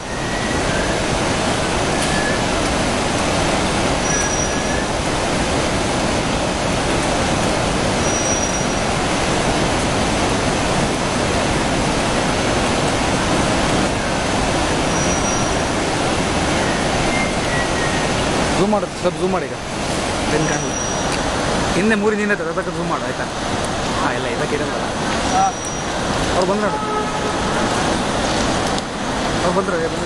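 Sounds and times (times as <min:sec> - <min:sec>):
train running over bridge: 0:00.0 - 0:30.0
waterfall roaring: 0:00.0 - 0:30.0.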